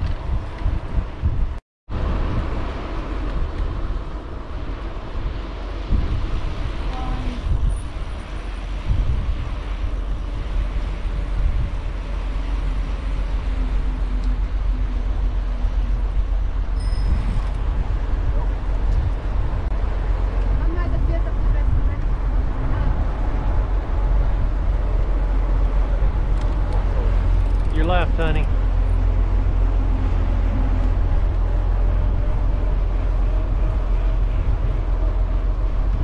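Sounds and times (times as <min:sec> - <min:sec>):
road traffic: 0:00.0 - 0:36.0
wind buffeting microphone: 0:00.0 - 0:36.0.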